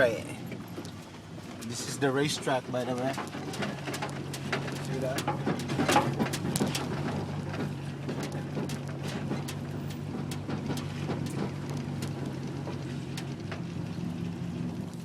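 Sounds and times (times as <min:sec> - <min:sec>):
vehicle engine hum: 0:00.0 - 0:15.0
sharp clicks and rattles: 0:00.4 - 0:15.0.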